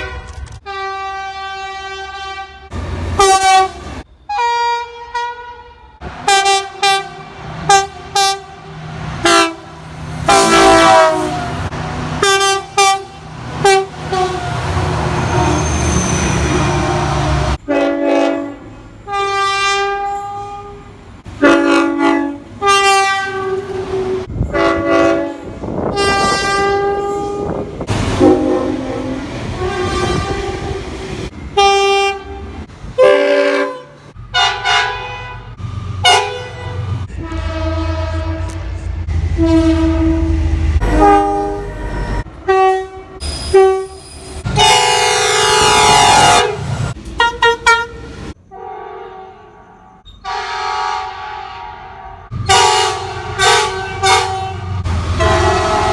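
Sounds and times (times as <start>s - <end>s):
train horns tooting: 0.0s - 55.9s.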